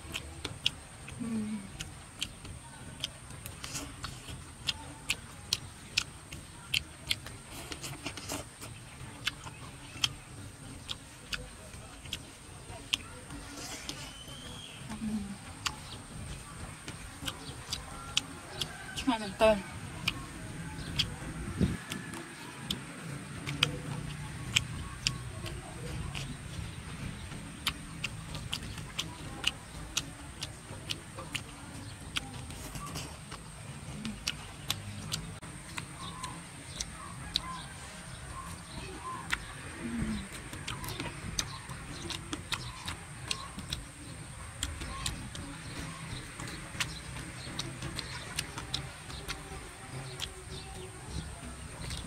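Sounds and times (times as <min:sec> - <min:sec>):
person chewing with mouth clicks: 0:00.0 - 0:52.0.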